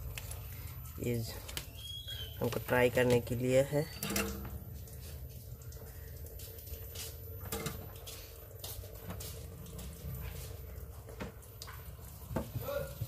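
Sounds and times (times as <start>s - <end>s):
low background hum and rumble: 0.0s - 13.0s.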